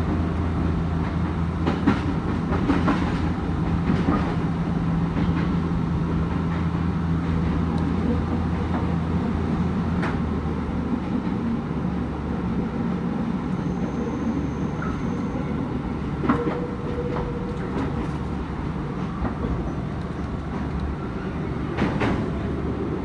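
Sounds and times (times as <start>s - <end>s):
rumble of train wheels on rail: 0.0s - 23.0s.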